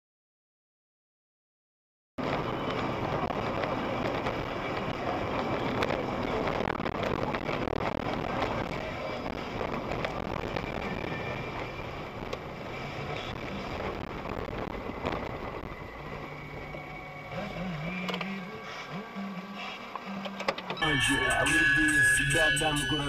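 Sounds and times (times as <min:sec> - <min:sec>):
car road and engine noise: 0:02.2 - 0:21.4.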